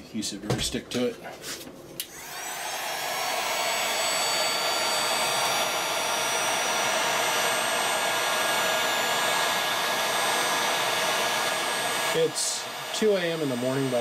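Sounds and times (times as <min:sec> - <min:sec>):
hot-air blower whining: 0:02.0 - 0:14.0.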